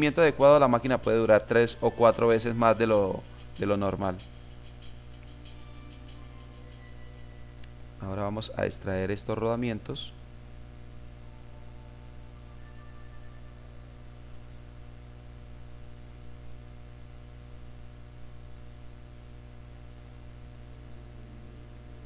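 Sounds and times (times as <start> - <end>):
low mains hum: 0.0 - 22.0.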